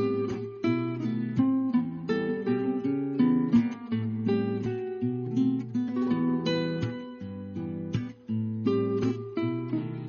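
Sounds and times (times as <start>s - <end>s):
plucked guitar notes and chords: 0.0s - 10.0s.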